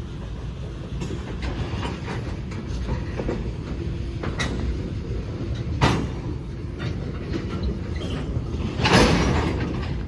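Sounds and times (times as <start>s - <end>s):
sharp knocks of rail cars: 0.0s - 10.0s
train rumbling: 0.0s - 10.0s.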